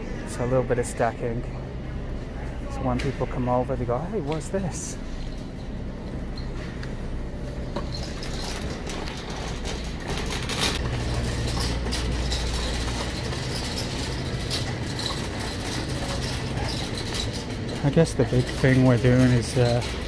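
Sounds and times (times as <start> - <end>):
shopping cart wheels rumbling: 2.4 - 20.0.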